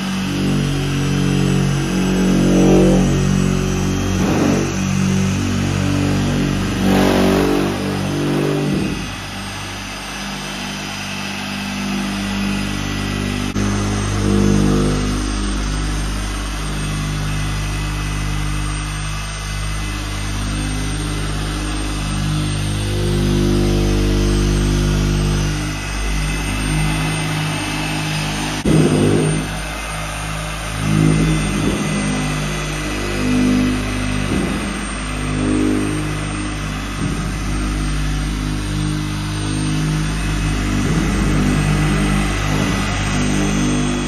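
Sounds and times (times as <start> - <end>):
orbital polisher motor humming: 0.0 - 44.0.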